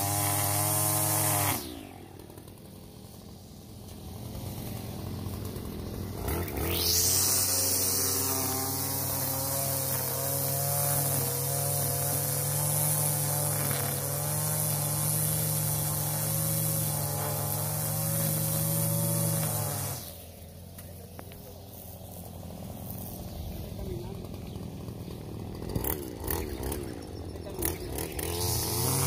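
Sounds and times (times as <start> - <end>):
string trimmer cutting grass: 0.0 - 29.0.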